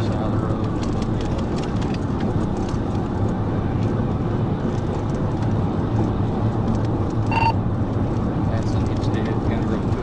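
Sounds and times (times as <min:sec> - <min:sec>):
car interior road noise: 0:00.0 - 0:10.0
constant low hum: 0:00.0 - 0:10.0.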